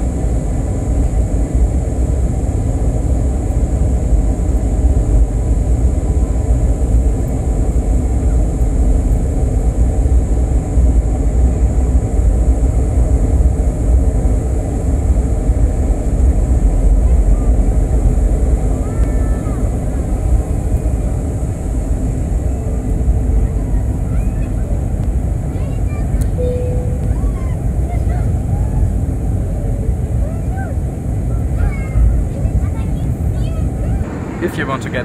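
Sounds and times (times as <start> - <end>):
airliner cabin rumble: 0.0 - 35.0.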